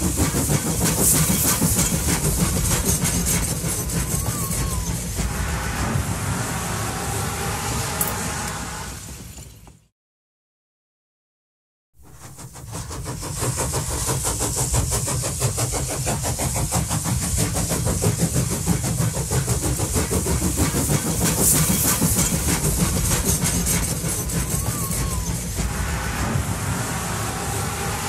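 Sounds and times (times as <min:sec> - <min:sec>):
hiss: 0:00.0 - 0:09.4, 0:12.0 - 0:28.0
train clattering and rumbling: 0:00.0 - 0:09.9, 0:12.0 - 0:28.0.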